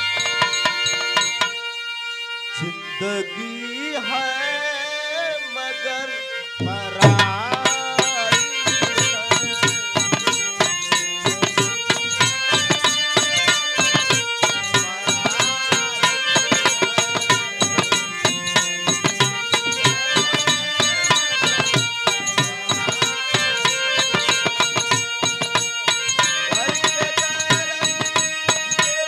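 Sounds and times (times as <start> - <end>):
harmonium chords: 0.0 - 29.0.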